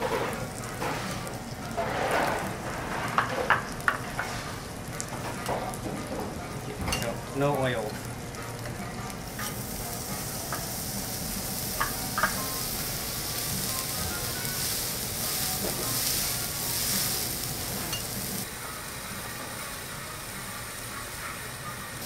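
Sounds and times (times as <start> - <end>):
steak sizzling on a griddle: 0.0 - 22.0.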